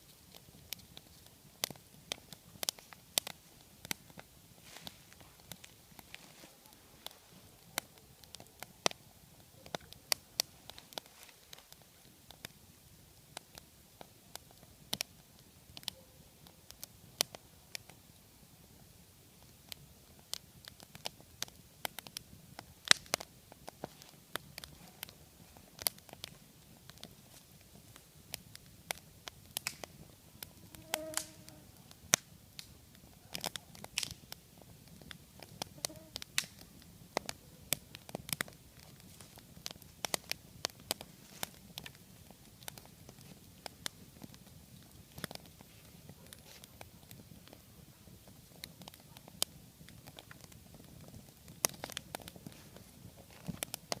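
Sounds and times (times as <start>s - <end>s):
sharp pops and snaps: 0.0s - 9.0s, 9.6s - 12.6s, 13.3s - 18.0s, 19.4s - 54.0s
wood fire crackling: 0.0s - 54.0s.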